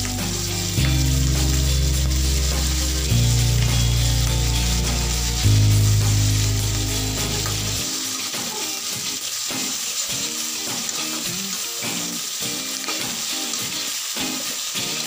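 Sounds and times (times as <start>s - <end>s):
background music: 0.0s - 15.0s
food sizzling in a hot wok: 0.0s - 15.0s
spatula stirring in a wok: 0.0s - 15.0s.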